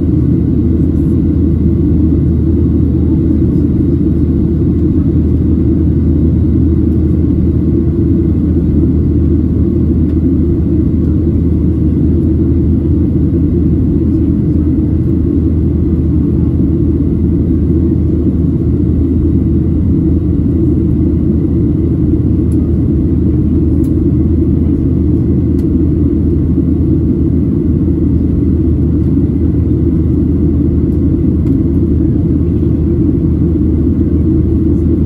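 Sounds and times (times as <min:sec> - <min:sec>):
jet engines and airflow in cabin: 0:00.0 - 0:35.0.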